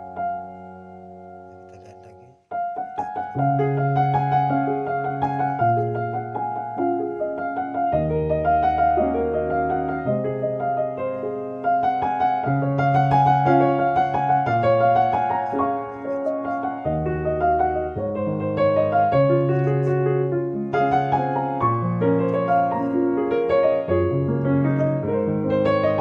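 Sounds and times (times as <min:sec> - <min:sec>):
piano melody: 0:00.0 - 0:26.0.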